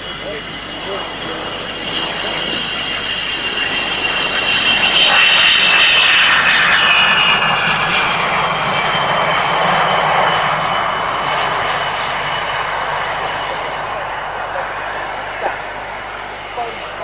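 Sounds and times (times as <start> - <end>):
jet engines whining and roaring: 0.0 - 17.0.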